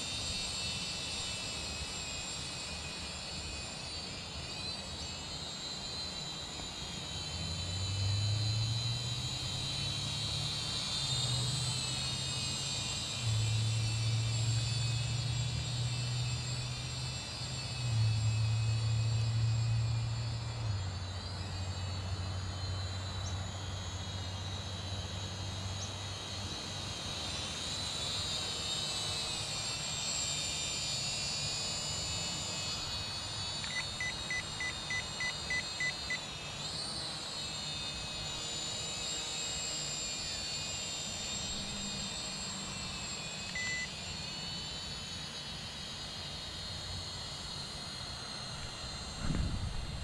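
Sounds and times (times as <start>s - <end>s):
drone propellers whining: 0.0s - 50.0s.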